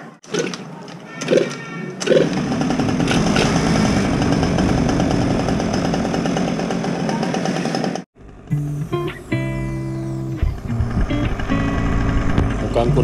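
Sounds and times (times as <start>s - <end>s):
scooter engine running: 2.1s - 13.0s.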